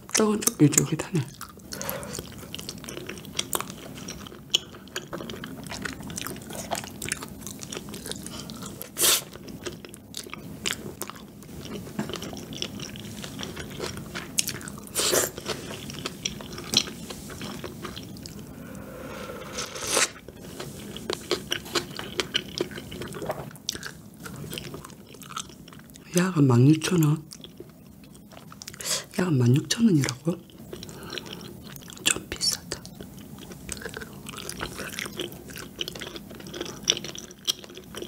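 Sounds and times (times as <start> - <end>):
close chewing with mouth clicks: 0.0 - 18.5, 19.8 - 26.1, 27.0 - 29.2, 30.0 - 38.0.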